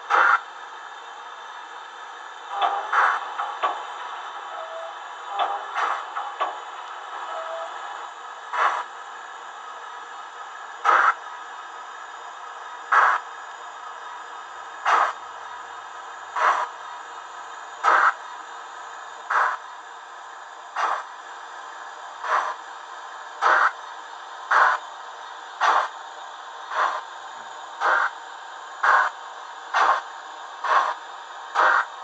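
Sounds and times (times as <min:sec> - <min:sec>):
steam locomotive chuffs from loudspeaker: 0:00.0 - 0:32.0.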